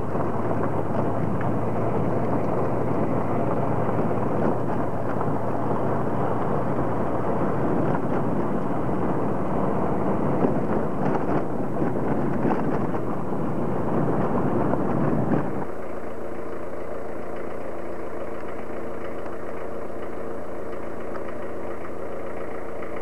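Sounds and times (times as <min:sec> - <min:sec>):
vehicle driving on dirt road: 0:00.0 - 0:23.0.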